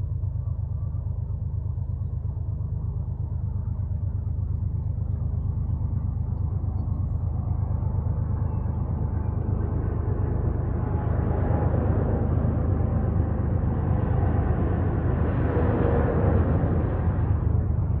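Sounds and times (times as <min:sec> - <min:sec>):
steady low rumble: 0:00.0 - 0:18.0
truck engine and tyres approaching: 0:03.5 - 0:18.0.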